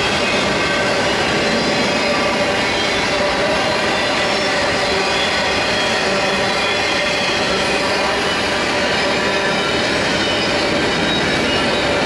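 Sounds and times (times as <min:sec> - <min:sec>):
steel wheels rolling on rails: 0:00.0 - 0:12.0.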